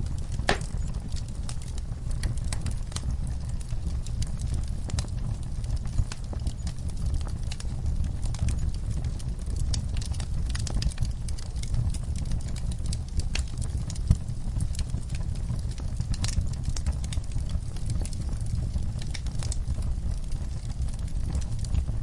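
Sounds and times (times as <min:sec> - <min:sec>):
steady low rumble: 0:00.0 - 0:22.0
wood fire crackling: 0:00.0 - 0:22.0.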